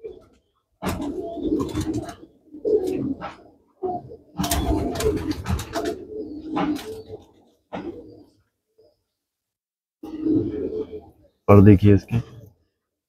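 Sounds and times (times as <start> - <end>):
pigeons cooing: 0.0 - 9.0, 10.0 - 12.4.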